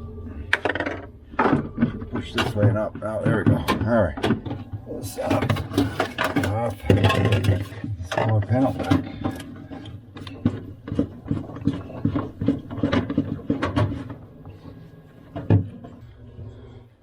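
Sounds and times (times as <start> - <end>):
plastic panels clicking and scraping: 0.4 - 16.1.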